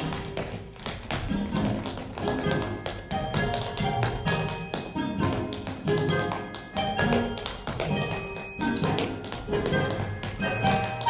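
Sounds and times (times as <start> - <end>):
accompaniment music: 0.0 - 11.0
tap shoes on stage floor: 0.0 - 11.0.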